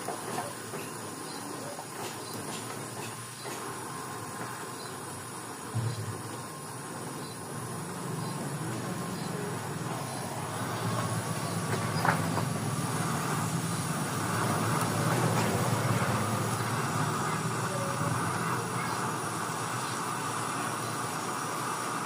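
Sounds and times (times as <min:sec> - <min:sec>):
engine rumbling through exhaust: 0:00.0 - 0:22.0.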